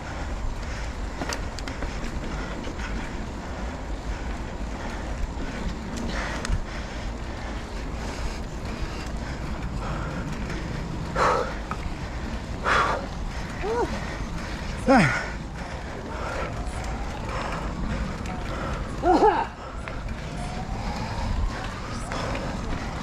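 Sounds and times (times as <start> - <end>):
motorcycle engine rumble: 0.0 - 23.0
road noise: 0.0 - 23.0
wind buffeting microphone: 0.0 - 23.0.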